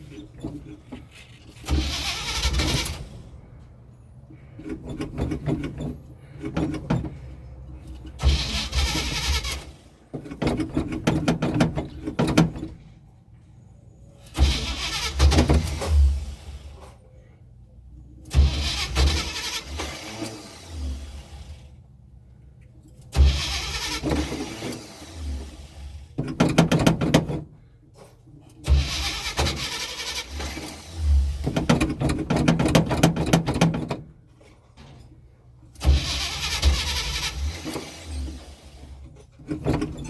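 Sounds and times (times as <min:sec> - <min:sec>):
engine cranking by starter: 0:00.0 - 0:12.9, 0:14.2 - 0:17.0, 0:18.2 - 0:21.8, 0:22.9 - 0:27.6, 0:28.4 - 0:34.1, 0:35.7 - 0:40.0.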